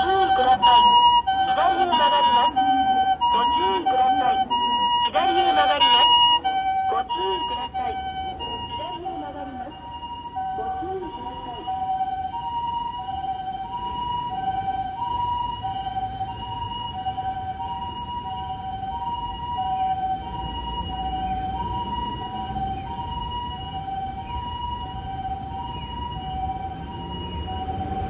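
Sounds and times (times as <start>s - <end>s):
ambulance siren two-tone: 0.0s - 28.0s
road and engine rumble: 0.0s - 28.0s.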